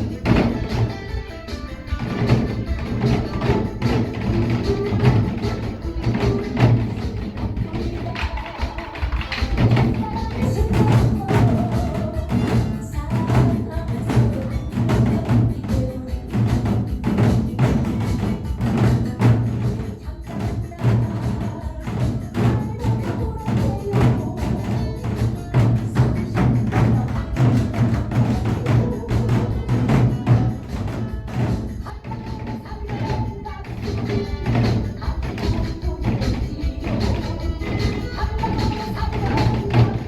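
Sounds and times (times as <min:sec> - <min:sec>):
backing music: 0:00.0 - 0:40.0
barrel drums drumming: 0:00.0 - 0:40.0.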